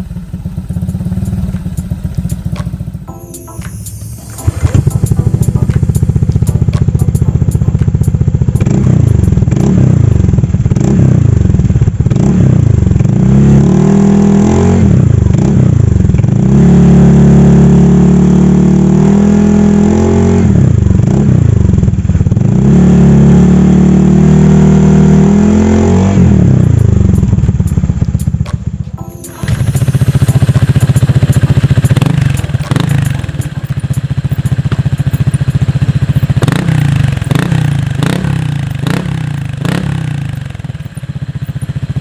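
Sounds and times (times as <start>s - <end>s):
scooter engine revving: 0.0s - 3.1s, 4.0s - 42.0s.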